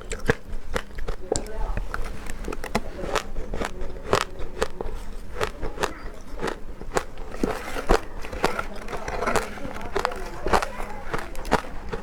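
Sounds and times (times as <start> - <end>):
chewing crunchy ice: 0.0 - 12.0.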